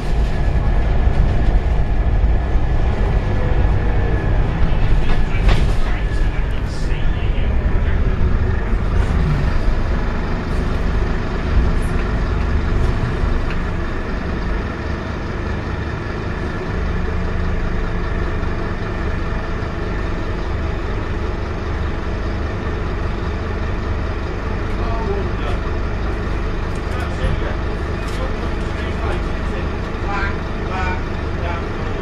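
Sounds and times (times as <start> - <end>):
bus diesel engine droning: 0.0 - 32.0.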